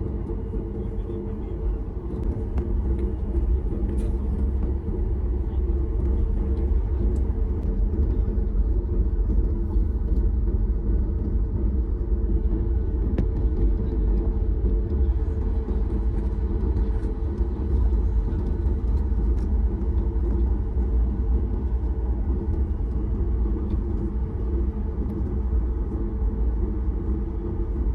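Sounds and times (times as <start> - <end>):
airplane cabin rumble: 0.0 - 27.9.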